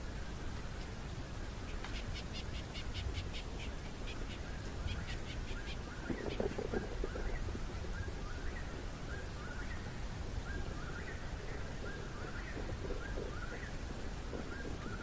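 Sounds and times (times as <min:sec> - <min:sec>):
low background hiss: 0:00.0 - 0:15.0
birds chirping: 0:01.6 - 0:15.0
lower bird calls: 0:01.7 - 0:15.0.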